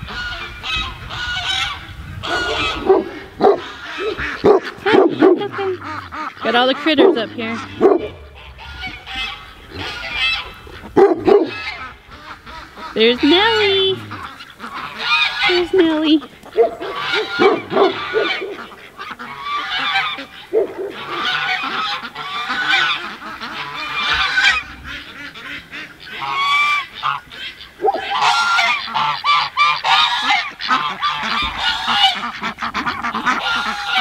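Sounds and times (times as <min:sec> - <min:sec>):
geese honking: 0:00.0 - 0:34.0.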